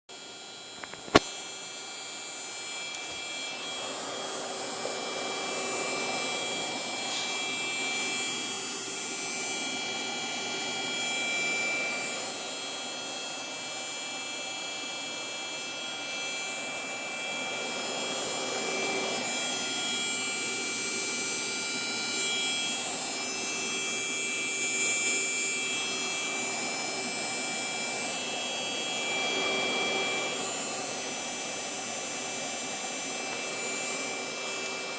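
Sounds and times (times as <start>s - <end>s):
high whining tones: 0.2s - 34.9s.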